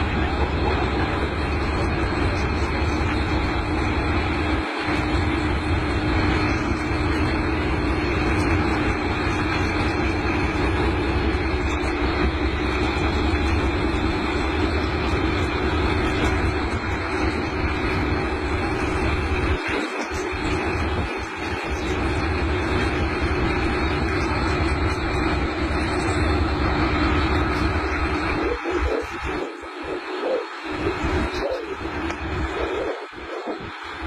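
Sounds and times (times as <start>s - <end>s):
locomotive engine droning: 0.0s - 34.0s.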